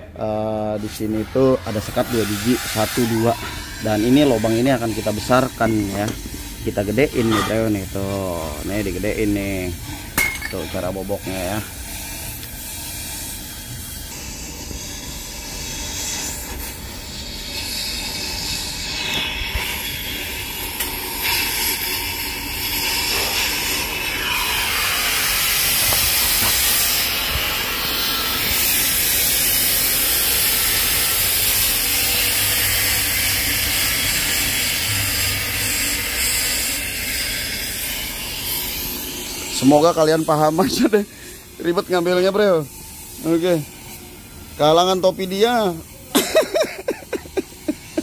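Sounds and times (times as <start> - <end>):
cutting torch hissing: 0.0 - 48.0.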